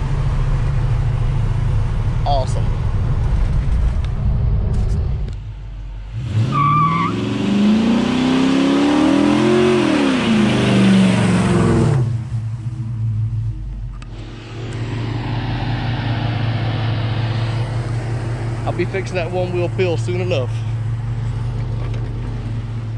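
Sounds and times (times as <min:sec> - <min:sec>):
car engine rumbling and revving: 0:00.0 - 0:22.9.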